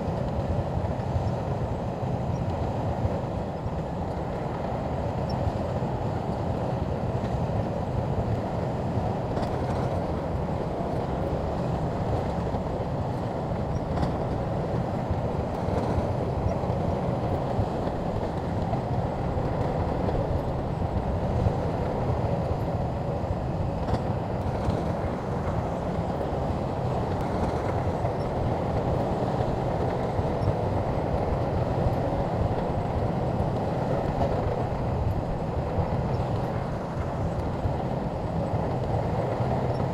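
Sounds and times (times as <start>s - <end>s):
bulldozer engine running: 0.1s - 39.9s.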